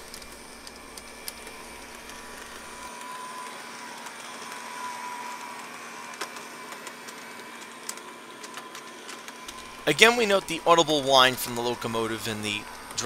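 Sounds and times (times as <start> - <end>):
model train motor whine: 0.0 - 13.0.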